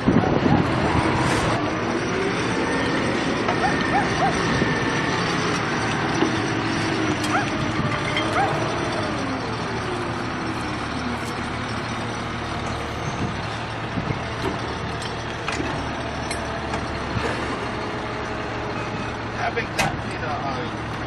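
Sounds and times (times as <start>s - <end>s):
heavy vehicle engine rumbling: 0.0s - 21.0s.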